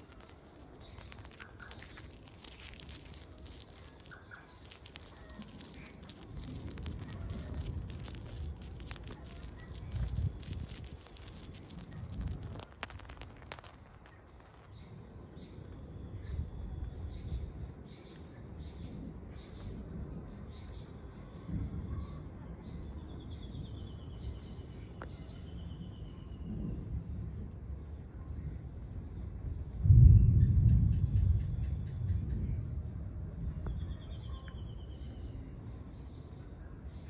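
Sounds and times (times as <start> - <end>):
distant thunder rumbling: 0.0 - 24.9, 26.4 - 36.3
insects chirping: 0.0 - 37.0.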